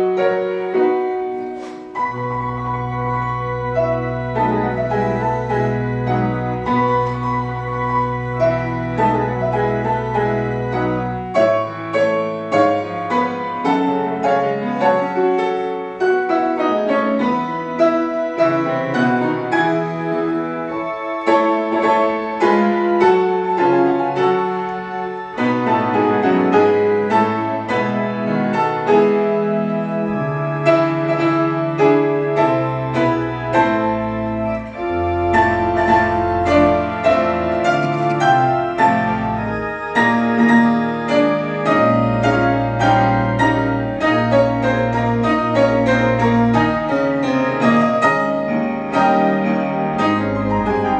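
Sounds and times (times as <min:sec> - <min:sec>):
piano playing chords: 0:00.0 - 0:50.9.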